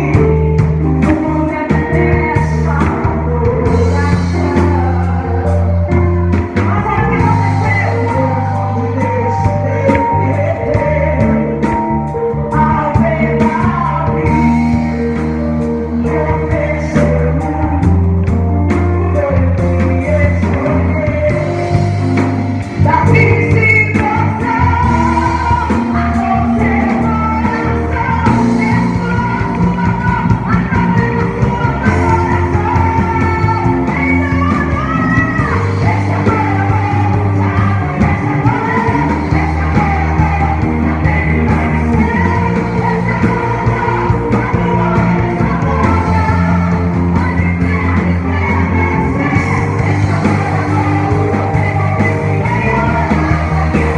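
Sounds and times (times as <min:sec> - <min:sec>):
band playing worship song: 0:00.0 - 0:53.9
person singing: 0:00.0 - 0:53.9
sustained bass notes: 0:00.0 - 0:53.9.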